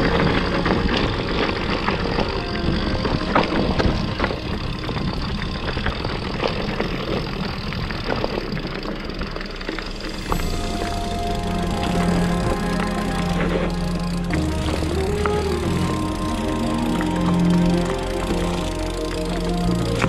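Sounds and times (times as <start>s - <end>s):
bike rattling and knocking: 0.0s - 20.0s
tyres crunching over gravel: 0.0s - 20.0s.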